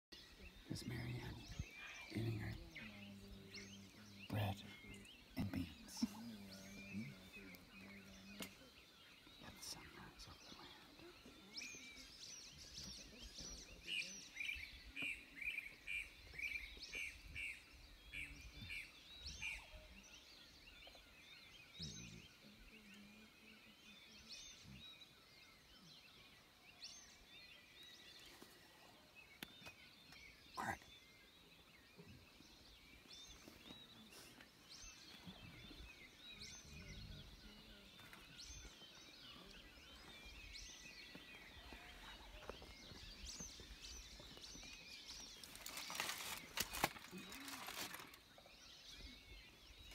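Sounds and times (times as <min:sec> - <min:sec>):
birds calling: 0:00.2 - 0:22.6, 0:24.3 - 0:49.9.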